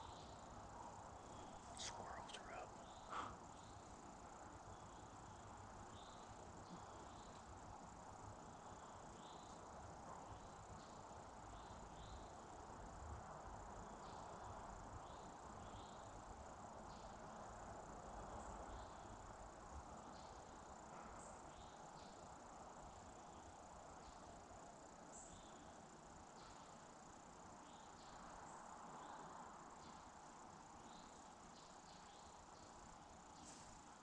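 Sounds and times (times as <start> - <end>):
high insect drone: 0.0 - 34.0
insect chirps: 0.0 - 34.0.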